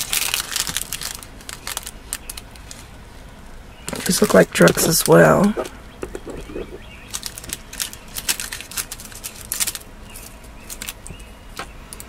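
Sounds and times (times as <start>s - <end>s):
plastic bag crinkling: 0.0s - 3.0s, 3.9s - 11.1s.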